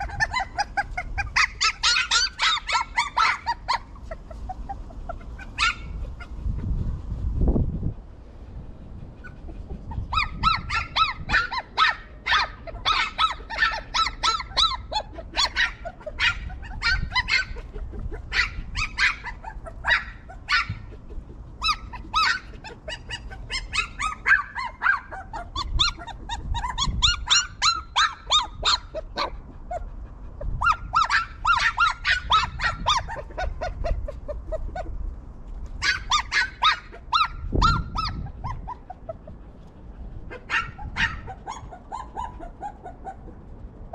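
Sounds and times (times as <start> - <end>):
puppies whimpering and yipping: 0.0 - 6.8, 8.6 - 35.1, 35.8 - 43.9.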